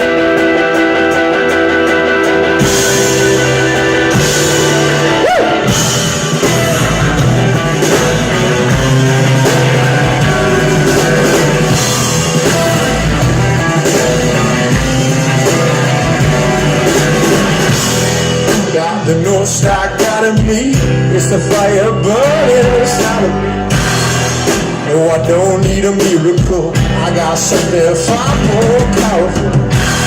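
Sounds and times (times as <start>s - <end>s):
bass and drum kit beat: 0.0s - 30.0s
rock guitar: 0.0s - 30.0s.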